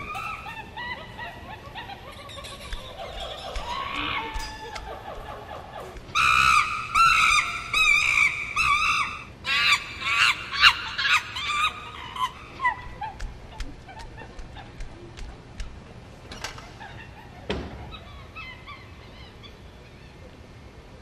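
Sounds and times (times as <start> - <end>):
high-pitched animal calls: 0.0 - 14.8, 16.4 - 20.4.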